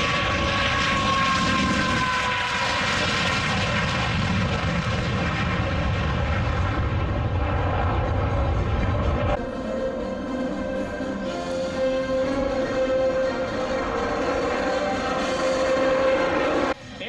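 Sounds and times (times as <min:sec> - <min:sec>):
jet engine rush and whine: 0:00.0 - 0:17.0.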